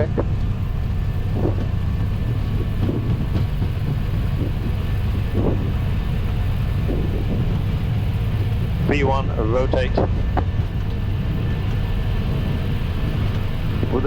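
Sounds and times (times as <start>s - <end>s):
jet engines rumbling: 0.0s - 14.0s
wheels rolling on runway: 0.0s - 14.0s.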